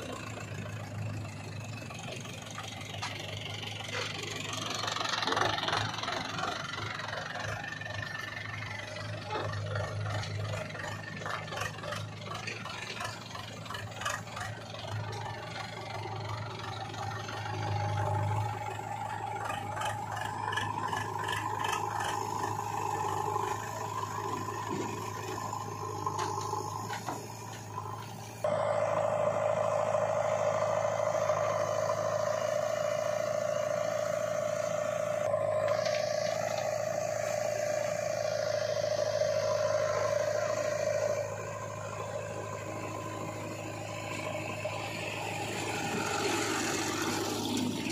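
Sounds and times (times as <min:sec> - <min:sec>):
diesel engines running: 0:00.0 - 0:47.9
loud steady engine hum: 0:00.0 - 0:47.9.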